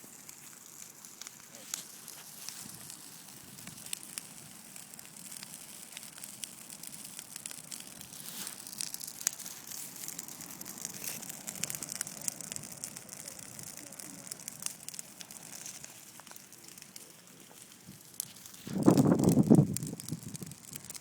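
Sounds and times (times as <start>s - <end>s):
fire hissing and crackling: 0.0s - 21.0s
sharp pops from fire: 0.0s - 21.0s.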